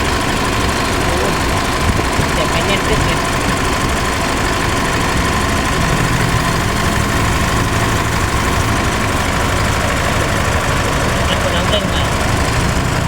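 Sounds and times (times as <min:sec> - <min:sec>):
diesel engine idling: 0:00.0 - 0:13.0
steady whine: 0:00.0 - 0:13.0.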